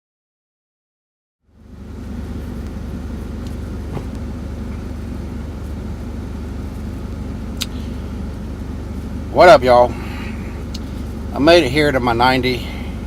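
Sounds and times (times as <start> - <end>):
diesel truck engine idling: 1.5 - 13.0.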